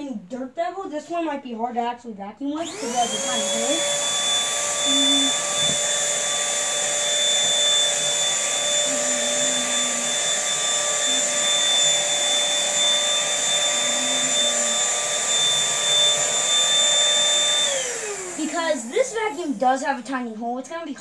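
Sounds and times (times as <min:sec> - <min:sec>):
vacuum cleaner motor whine: 0:02.6 - 0:20.0.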